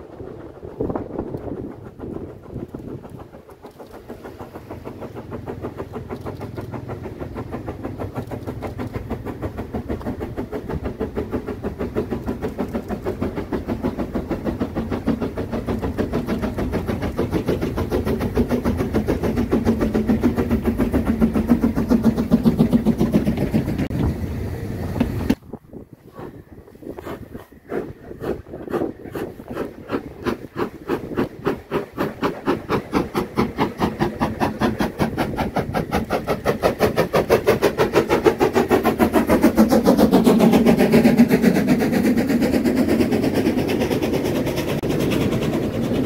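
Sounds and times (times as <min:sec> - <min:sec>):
steam locomotive chuffing: 0:00.0 - 0:46.0.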